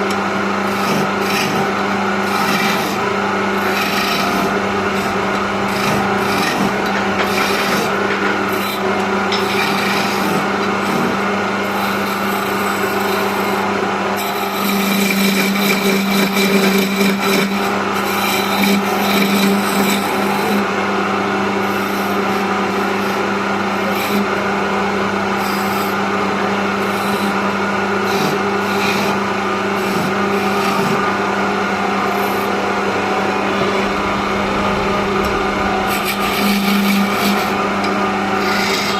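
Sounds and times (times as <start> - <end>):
lathe motor hum: 0.0 - 38.9
tool scraping spinning wood: 0.0 - 38.9.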